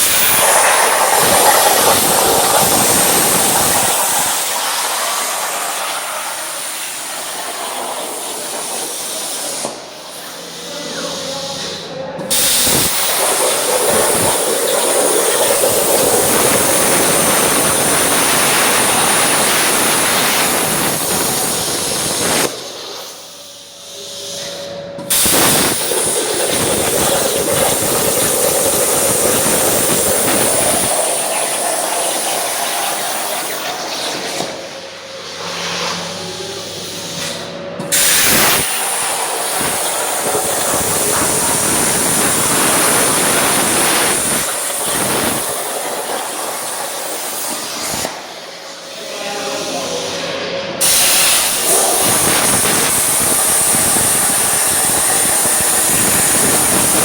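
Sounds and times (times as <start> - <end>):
plasma torch hissing: 0.0 - 24.4, 25.0 - 34.8, 35.4 - 50.1, 50.8 - 57.0.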